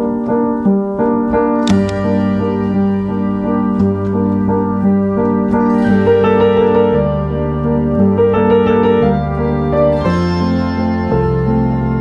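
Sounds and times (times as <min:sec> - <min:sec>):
slow piano accompaniment: 0:00.0 - 0:12.0.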